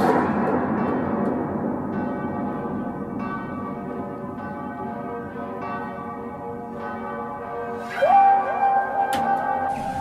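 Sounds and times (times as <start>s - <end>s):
church bells ringing: 0.1s - 10.0s.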